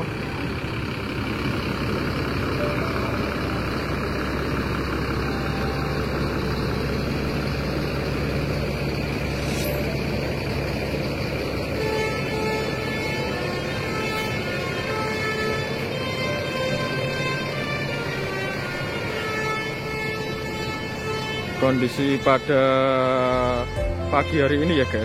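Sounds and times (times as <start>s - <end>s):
diesel bus engines running: 0.0s - 25.0s.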